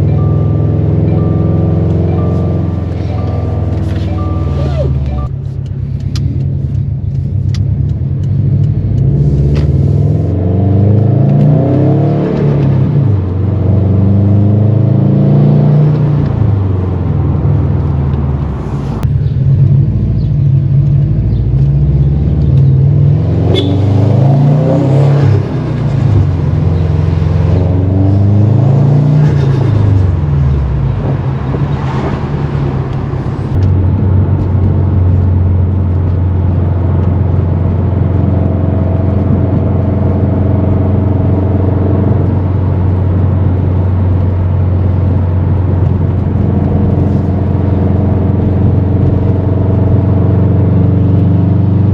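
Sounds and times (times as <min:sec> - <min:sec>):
turbocharged car engine accelerating: 0:00.0 - 0:51.9.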